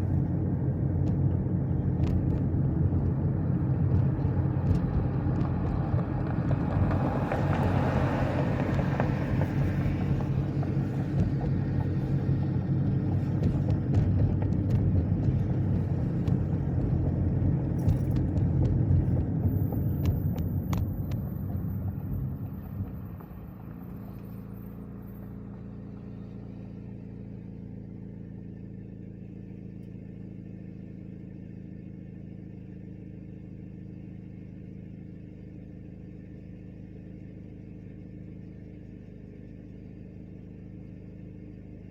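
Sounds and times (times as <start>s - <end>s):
engine idling: 0.0s - 41.9s
road and engine rumble: 0.0s - 41.9s.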